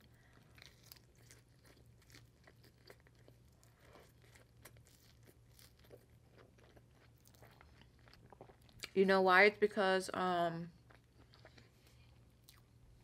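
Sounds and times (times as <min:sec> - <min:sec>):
wet chewing and mouth clicks: 0:00.0 - 0:09.0, 0:10.7 - 0:12.8
low steady hum: 0:00.0 - 0:13.0.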